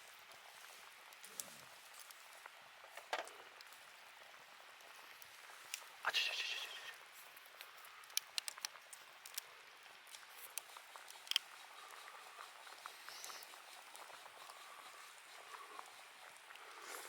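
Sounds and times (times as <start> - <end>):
campfire crackling: 0.0 - 17.0
faint hiss: 0.0 - 17.0.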